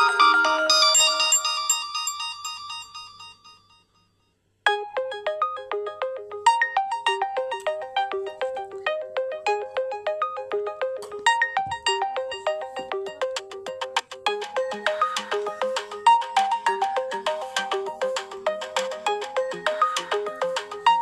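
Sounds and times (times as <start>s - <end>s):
phone ringtone melody: 0.0s - 21.0s.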